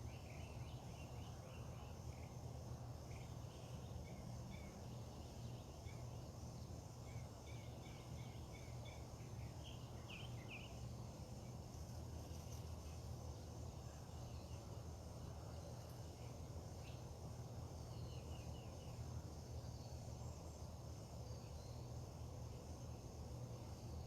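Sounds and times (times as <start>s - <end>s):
high insect drone: 0.0s - 24.0s
steady low hum: 0.0s - 24.0s.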